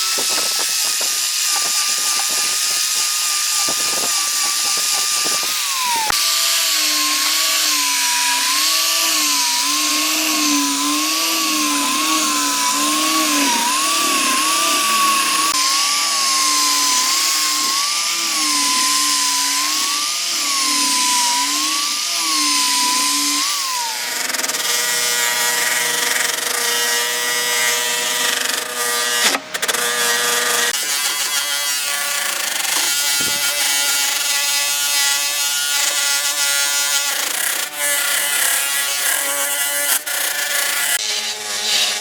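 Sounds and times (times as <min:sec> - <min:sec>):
power tool cutting wood: 0:00.0 - 0:42.0.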